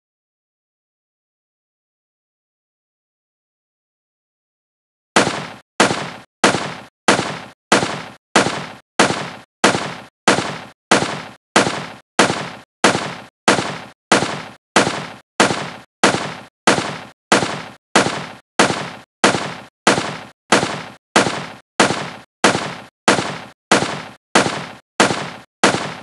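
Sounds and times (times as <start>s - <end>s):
machine gun shots: 5.2s - 26.0s.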